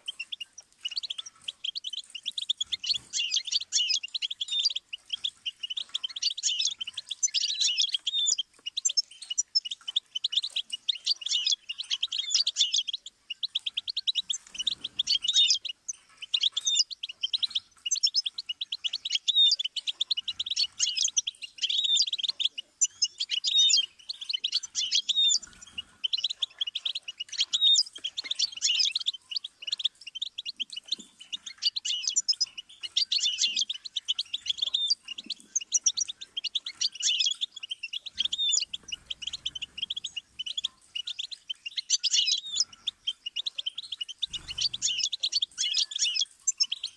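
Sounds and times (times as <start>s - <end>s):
goldfinch twittering and trilling: 0.0s - 46.9s.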